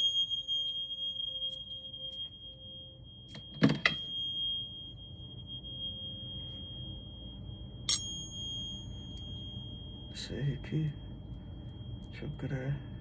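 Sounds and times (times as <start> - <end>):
tuning fork being struck: 0.0 - 13.0
tuning fork ringing: 0.0 - 13.0.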